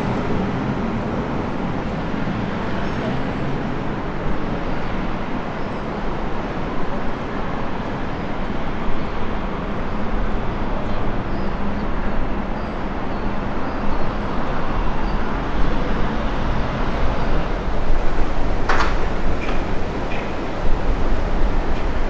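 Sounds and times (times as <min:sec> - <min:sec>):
traffic hum: 0:00.0 - 0:22.0.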